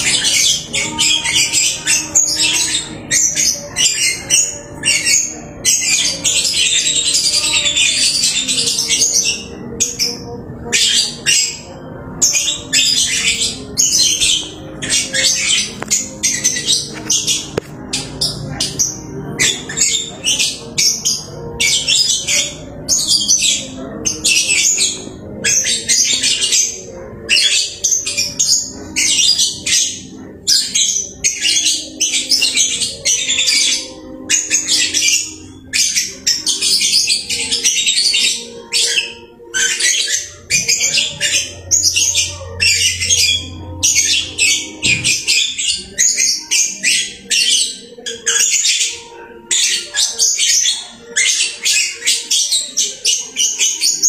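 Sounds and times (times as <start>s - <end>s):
lovebird chirping and squawking: 0.0s - 54.0s.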